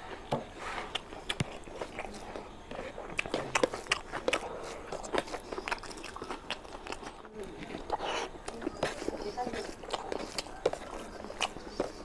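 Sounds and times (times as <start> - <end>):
wet chewing and lip smacks: 0.9 - 12.0.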